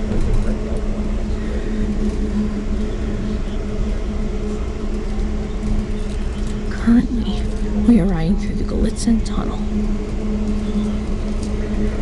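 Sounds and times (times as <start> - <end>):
train rumbling in a tunnel: 0.0 - 12.0.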